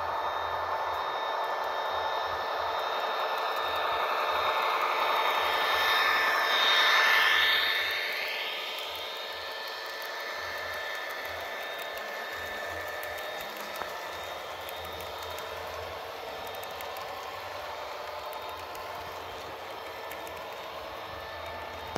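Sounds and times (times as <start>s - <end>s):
model train running on track: 0.0s - 21.9s.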